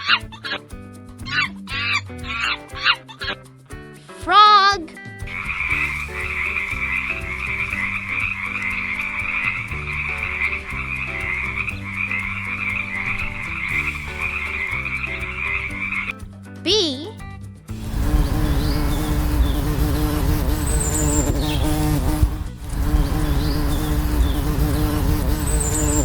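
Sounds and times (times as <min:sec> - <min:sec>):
low steady notes: 0:04.3 - 0:26.0.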